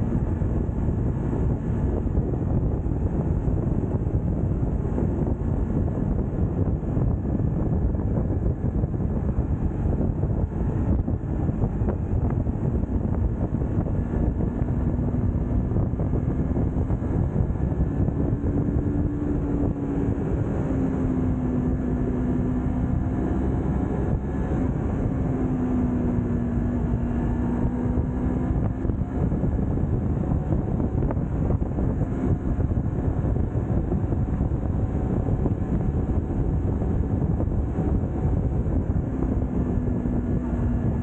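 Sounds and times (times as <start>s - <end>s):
motorcycle engine running: 0.0s - 41.0s
wind rush on microphone: 0.0s - 41.0s.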